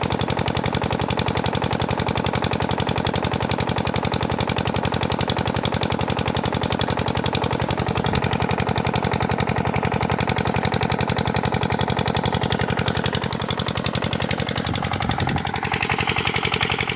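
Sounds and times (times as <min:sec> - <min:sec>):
water pump engine knocking: 0:00.0 - 0:16.9.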